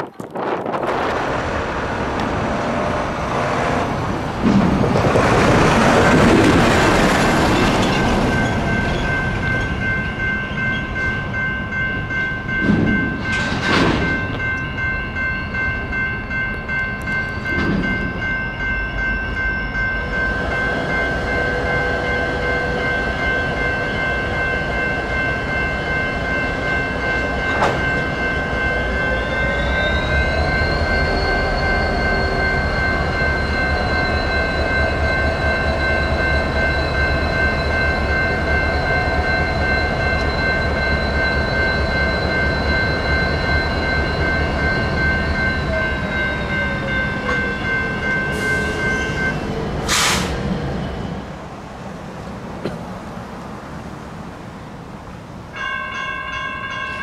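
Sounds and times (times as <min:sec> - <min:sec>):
crossing warning bell ringing: 0:02.2 - 0:51.4, 0:55.4 - 0:57.0.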